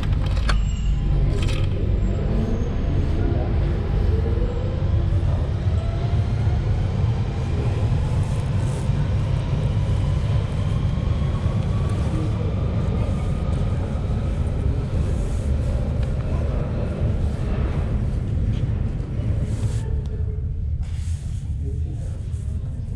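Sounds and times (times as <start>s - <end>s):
train rumbling in tunnel: 0.0s - 22.9s.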